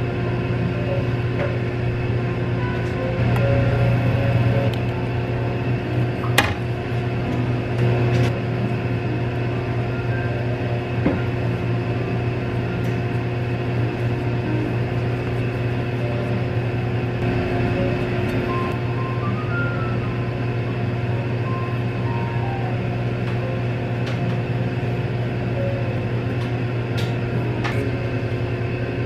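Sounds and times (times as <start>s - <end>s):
motor humming: 0.0s - 29.0s.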